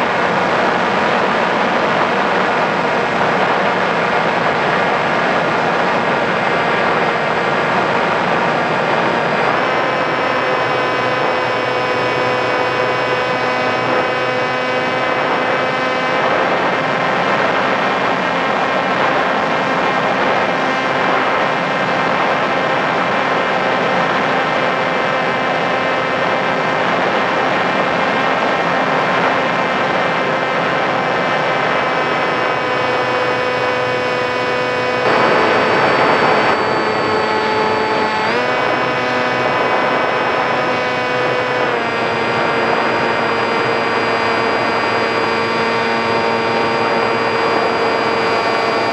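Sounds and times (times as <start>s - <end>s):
electric motor and propeller whining: 0.0s - 48.9s.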